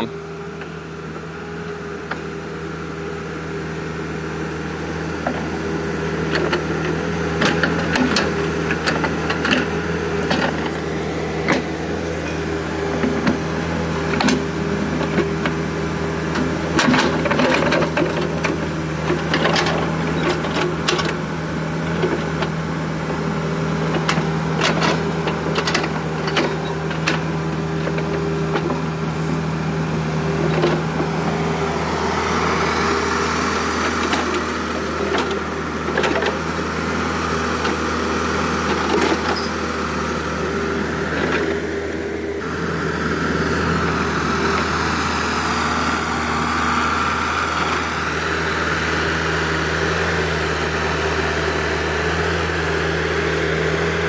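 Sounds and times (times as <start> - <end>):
mini excavator running: 0.0 - 54.0.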